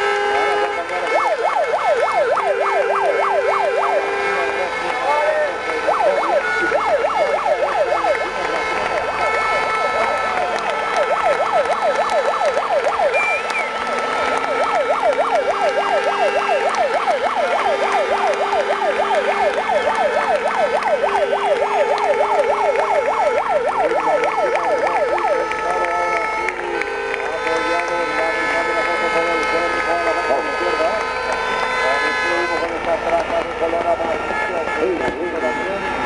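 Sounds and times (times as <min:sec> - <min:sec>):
low horn blasts: 0:00.0 - 0:36.0
siren-like horn warbling: 0:00.0 - 0:36.0
steady horn tones: 0:00.0 - 0:36.0.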